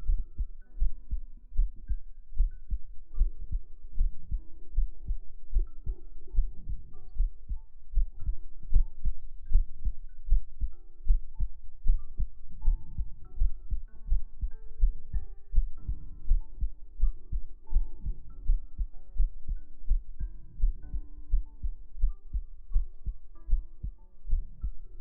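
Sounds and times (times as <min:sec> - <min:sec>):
heartbeat thumps: 0:00.0 - 0:25.0.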